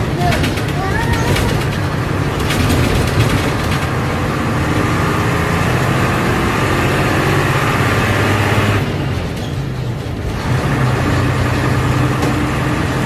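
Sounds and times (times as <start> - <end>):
bus engine humming: 0.0 - 13.0
road noise: 0.0 - 13.0.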